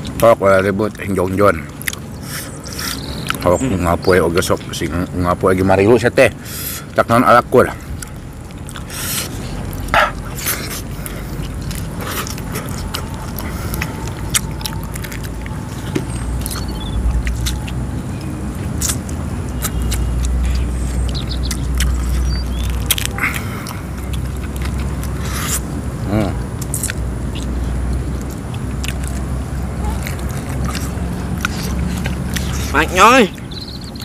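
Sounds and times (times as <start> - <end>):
chewing with clicks: 0.0 - 5.9, 7.6 - 34.0
low steady rumble: 0.0 - 34.0.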